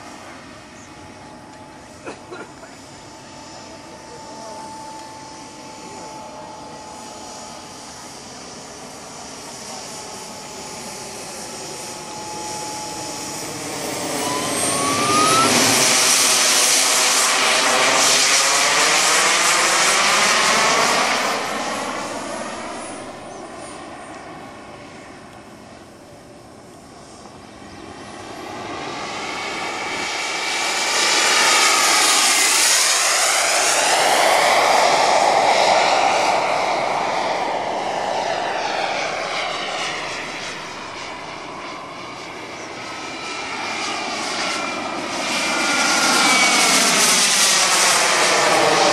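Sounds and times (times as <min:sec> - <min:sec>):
model jet engine flying past: 0:00.0 - 0:48.9.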